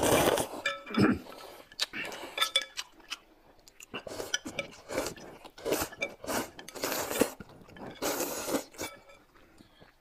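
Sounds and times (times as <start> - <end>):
eating and slurping from bowl: 0.0 - 10.0.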